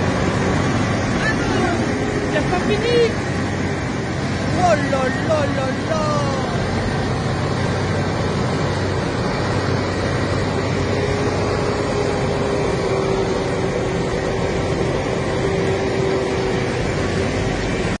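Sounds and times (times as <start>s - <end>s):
steady whine: 0.0s - 18.0s
tractor engine running: 0.0s - 18.0s.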